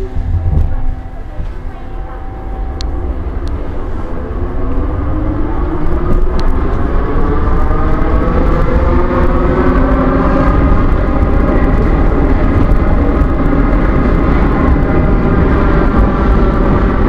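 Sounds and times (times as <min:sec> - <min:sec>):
train traction motors whining: 0:00.0 - 0:17.0.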